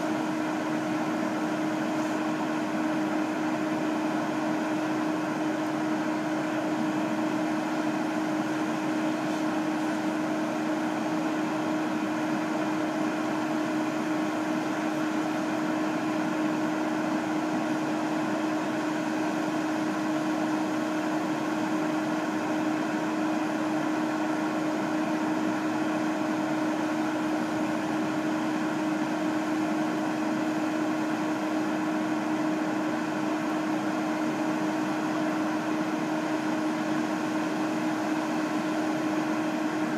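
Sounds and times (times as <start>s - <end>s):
fire engine droning hum: 0.0s - 39.9s.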